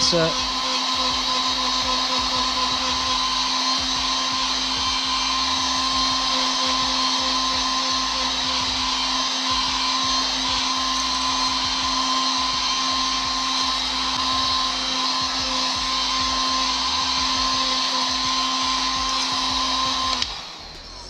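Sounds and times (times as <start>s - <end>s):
heat gun blowing air: 0.0s - 21.0s.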